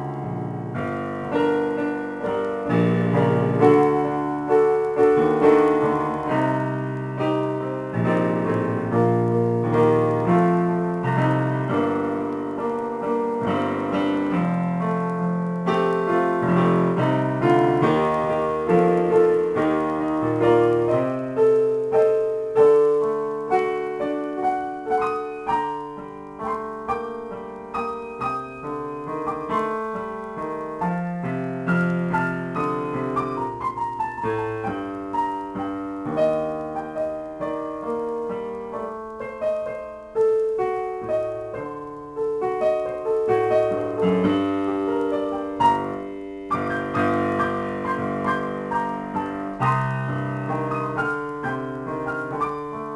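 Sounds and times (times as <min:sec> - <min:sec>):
solo keyboard piano improvisation: 0:00.0 - 0:52.9.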